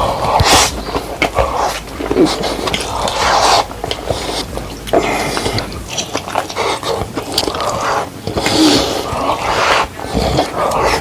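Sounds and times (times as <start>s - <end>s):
person biting and chewing: 0.0s - 11.0s
wet mouth clicks and smacks: 0.0s - 11.0s.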